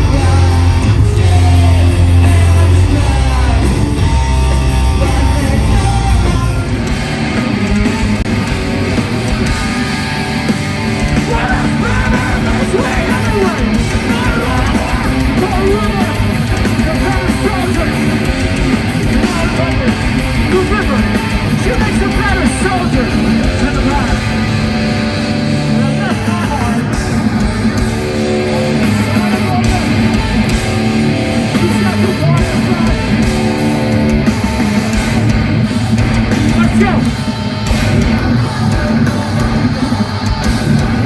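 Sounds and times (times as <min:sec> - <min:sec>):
heavy metal band playing: 0:00.0 - 0:41.0.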